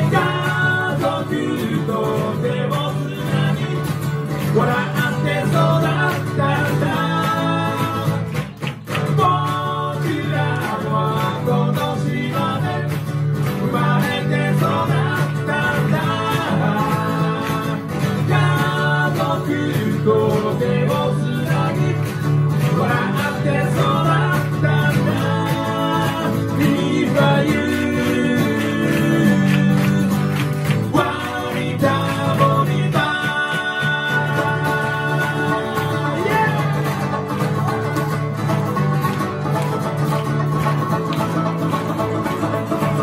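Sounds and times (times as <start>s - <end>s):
men singing: 0.0s - 37.4s
strummed acoustic guitars: 0.0s - 43.0s.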